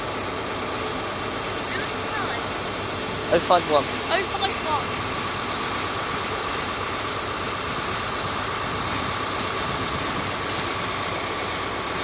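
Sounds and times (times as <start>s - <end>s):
electric train rumbling in: 0.0s - 12.0s.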